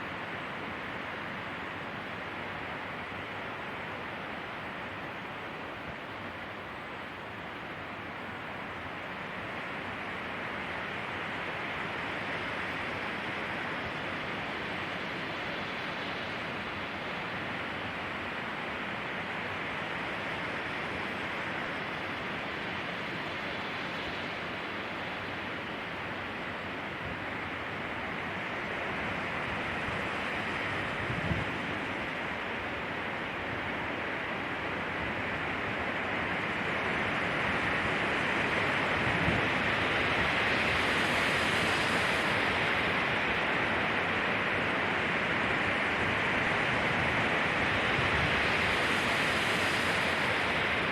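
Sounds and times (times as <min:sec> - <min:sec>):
wind rushing through pine trees: 0:00.0 - 0:50.9.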